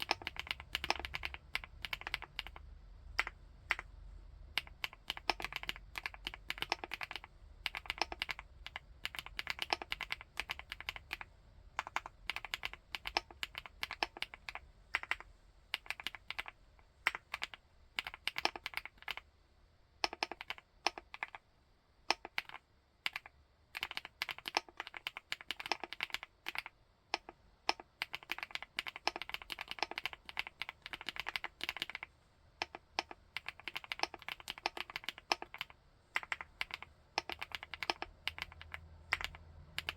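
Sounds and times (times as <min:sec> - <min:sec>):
typing on metal keyboard: 0:00.0 - 0:02.6, 0:04.6 - 0:19.2, 0:20.0 - 0:21.4, 0:22.1 - 0:39.9.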